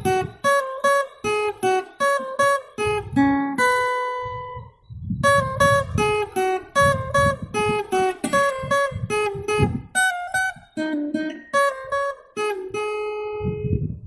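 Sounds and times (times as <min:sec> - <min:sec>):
plucked and strummed guitar: 0:00.0 - 0:14.0.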